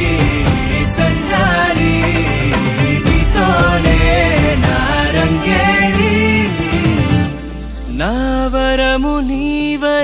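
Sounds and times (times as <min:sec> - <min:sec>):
steady low drone: 0:00.0 - 0:10.0.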